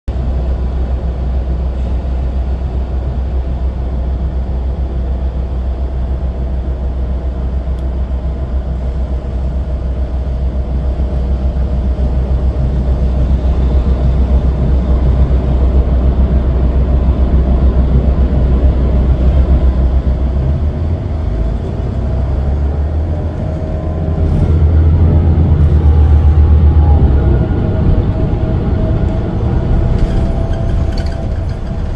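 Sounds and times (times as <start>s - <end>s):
bus engine and road rumble: 0.0s - 31.9s.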